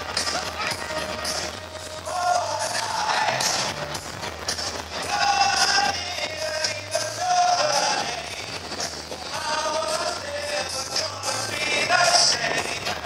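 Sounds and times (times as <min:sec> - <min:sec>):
male group singing over speakers: 0:00.0 - 0:04.2, 0:04.9 - 0:13.0.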